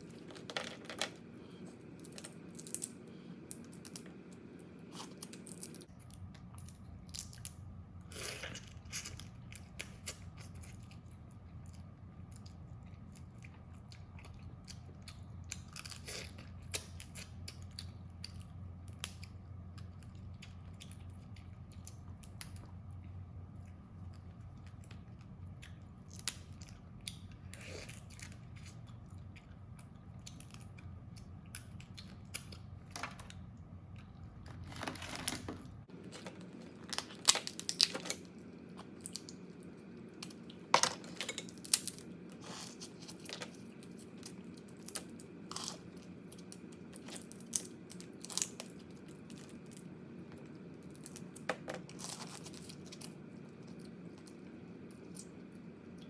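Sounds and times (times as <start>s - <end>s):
faint low hum: 0.0s - 56.0s
crab shells cracked and chewed: 0.1s - 56.0s.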